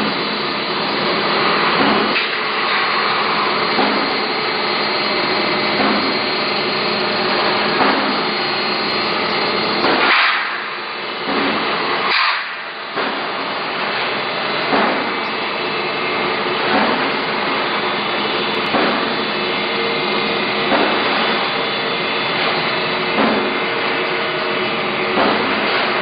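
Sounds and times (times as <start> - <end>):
production line machinery running: 0.0 - 26.0
machine knocking: 1.2 - 4.5, 5.1 - 26.0.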